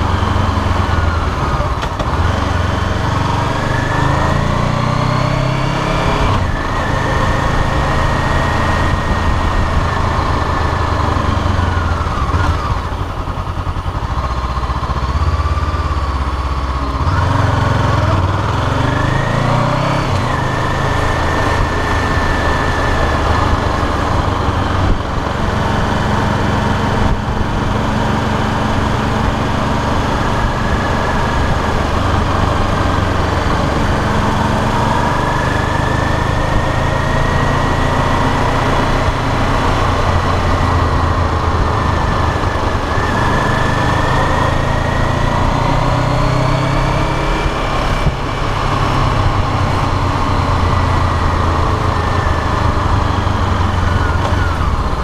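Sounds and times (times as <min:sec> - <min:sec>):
motorcycle engine running: 0:00.0 - 0:55.0
rushing wind: 0:00.0 - 0:55.0.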